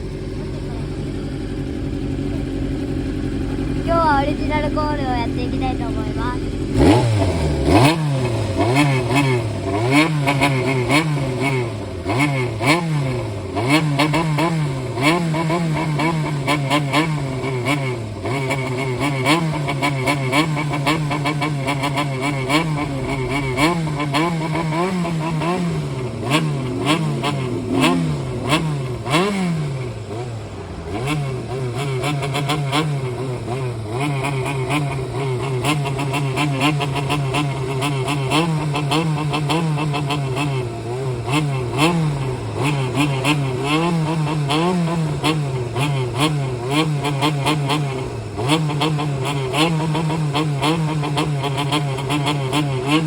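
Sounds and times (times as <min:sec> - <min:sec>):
motorcycle engine idling: 0:00.0 - 0:53.0
motorcycle engine revving: 0:00.0 - 0:53.0.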